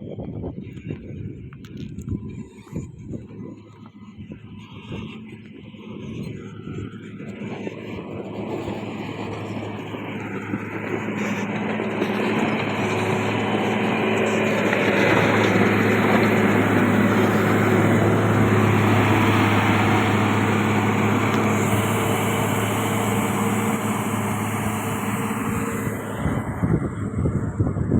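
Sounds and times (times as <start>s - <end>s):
diesel engine droning: 0.0s - 27.9s.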